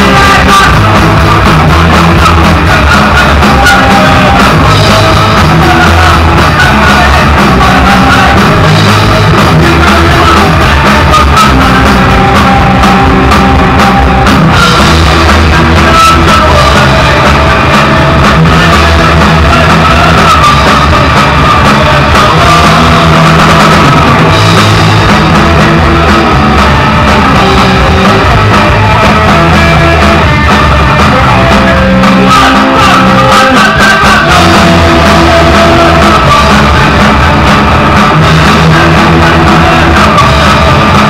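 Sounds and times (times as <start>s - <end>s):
punk band playing live: 0.0s - 41.0s.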